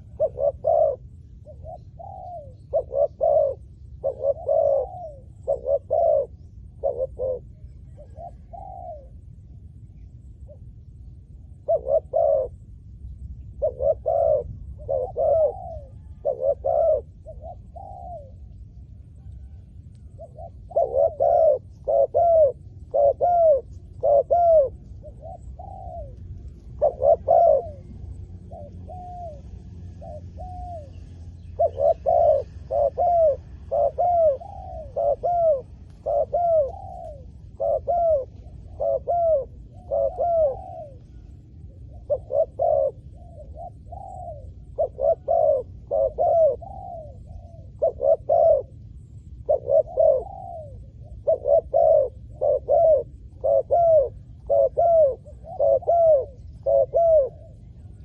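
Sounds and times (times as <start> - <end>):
doves cooing: 0.0 - 58.0.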